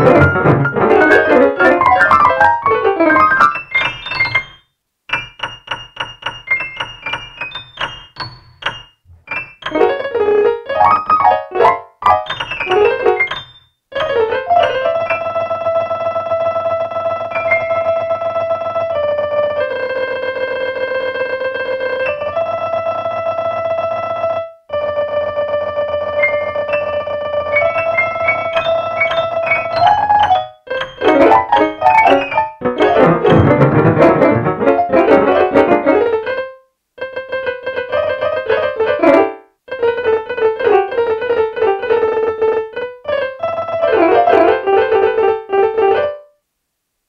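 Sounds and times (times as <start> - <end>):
synthesized piano notes: 0.0 - 46.3.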